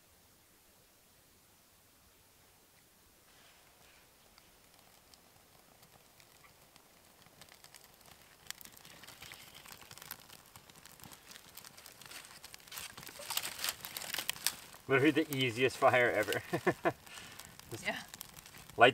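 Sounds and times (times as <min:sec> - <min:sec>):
bark fire crackling: 0:01.3 - 0:18.9
dry twigs rustling: 0:03.3 - 0:18.9.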